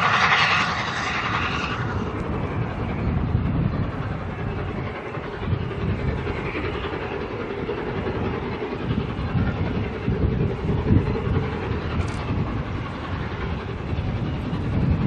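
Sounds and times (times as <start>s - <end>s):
steam locomotive exhaust chuffing: 0.0s - 15.0s
train rumble: 0.0s - 15.0s.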